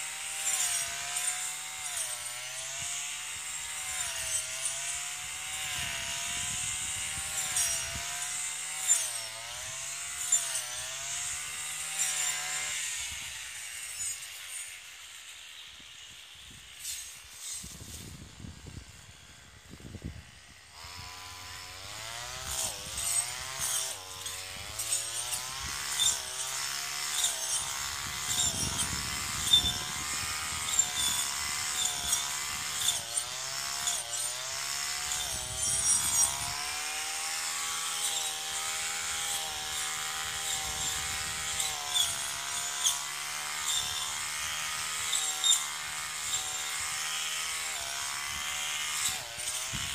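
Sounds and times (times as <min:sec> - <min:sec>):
brush cutter engine: 0:00.0 - 0:49.9.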